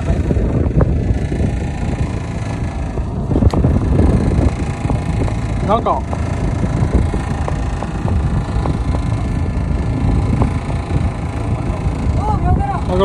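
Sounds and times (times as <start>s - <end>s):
boat engine rumble: 0.0s - 13.0s
wind buffeting microphone: 0.0s - 13.0s.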